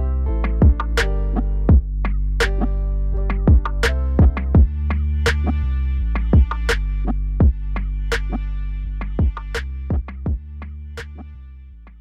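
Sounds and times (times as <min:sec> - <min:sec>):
electronic music with drum-machine beat: 0:00.3 - 0:11.3.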